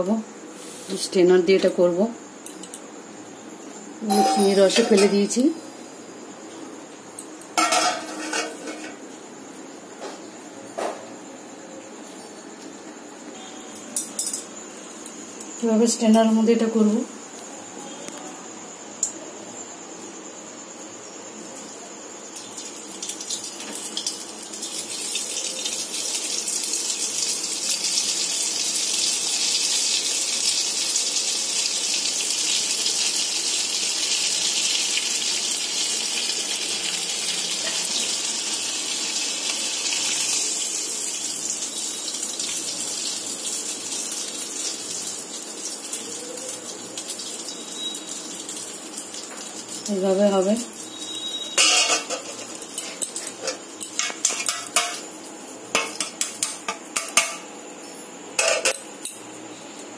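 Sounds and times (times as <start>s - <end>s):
dough sizzling in hot oil: 0.0s - 17.3s, 18.6s - 59.9s.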